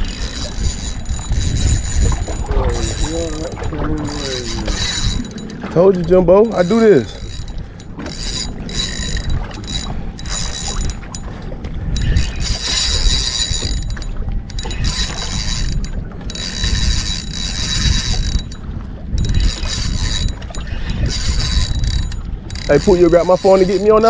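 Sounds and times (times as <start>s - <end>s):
fishing reel clicking whir: 0.0s - 11.2s, 11.9s - 24.0s
wind rumble on microphone: 0.0s - 24.0s.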